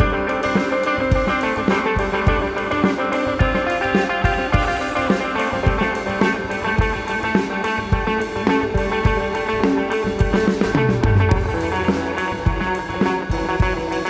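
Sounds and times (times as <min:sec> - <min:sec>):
electric guitar ambient lines: 0:00.0 - 0:14.0.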